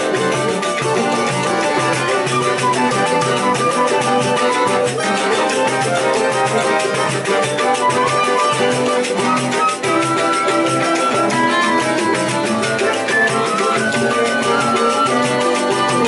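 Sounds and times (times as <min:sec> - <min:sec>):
flute melody: 0:00.0 - 0:16.0
strummed guitars: 0:00.0 - 0:16.0.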